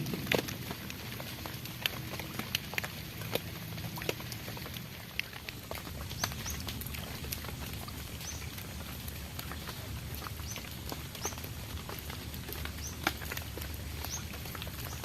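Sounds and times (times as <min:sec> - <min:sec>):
raindrops pattering: 0:00.0 - 0:15.0.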